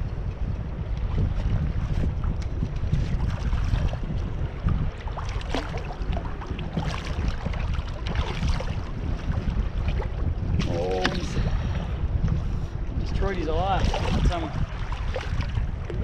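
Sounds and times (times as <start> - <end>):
water splashing and sloshing: 0.0 - 16.0
wind buffeting microphone: 0.0 - 16.0.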